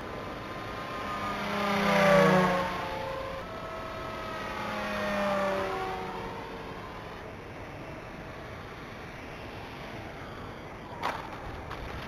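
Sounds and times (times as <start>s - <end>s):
model airplane motor whine: 0.0s - 11.8s.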